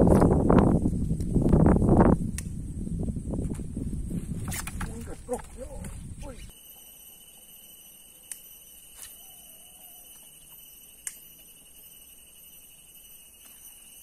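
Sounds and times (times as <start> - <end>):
high-pitched insect drone: 1.6 - 14.0.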